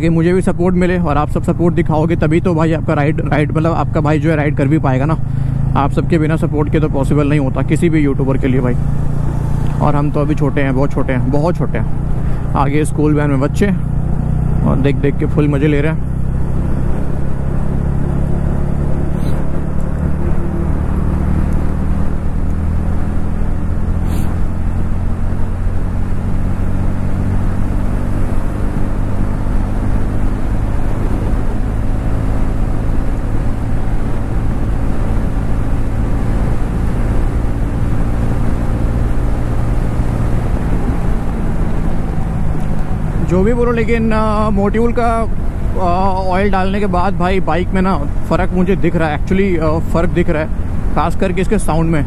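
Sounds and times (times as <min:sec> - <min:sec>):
motorcycle engine cruising: 0:00.0 - 0:52.0
wind rushing over microphone: 0:07.4 - 0:52.0.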